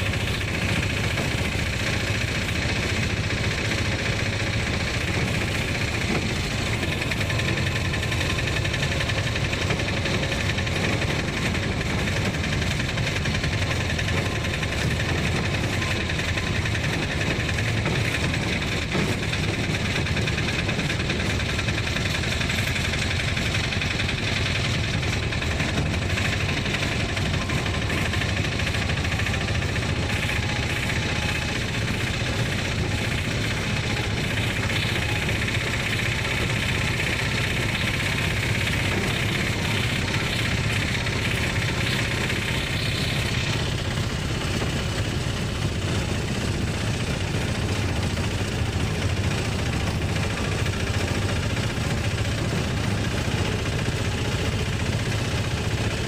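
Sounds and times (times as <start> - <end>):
engine running while driving: 0.0 - 56.0.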